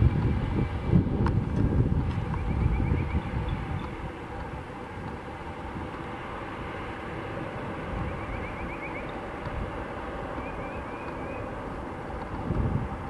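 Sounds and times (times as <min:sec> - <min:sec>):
distant jet engine rumble and whine: 0:00.0 - 0:13.0.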